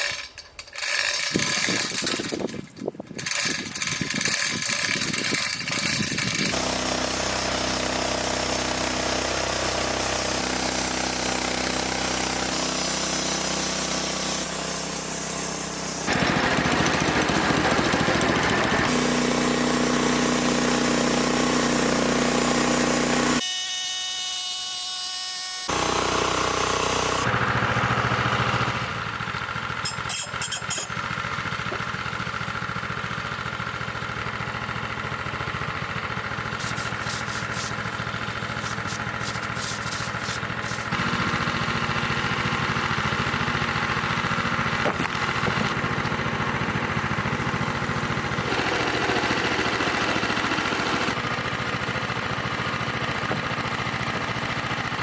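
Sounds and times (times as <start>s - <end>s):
engine running: 0.0s - 23.4s, 25.7s - 55.0s.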